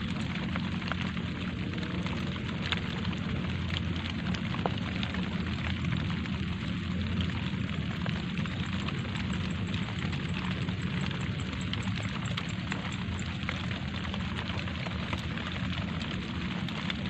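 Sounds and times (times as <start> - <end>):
light rain on leaves: 0.0 - 17.0
steady low rumble: 0.0 - 17.0.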